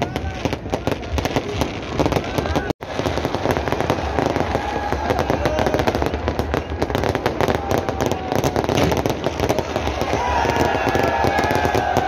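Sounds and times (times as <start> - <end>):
crowd voices: 0.0 - 12.0
fireworks bangs and crackles: 0.0 - 12.0.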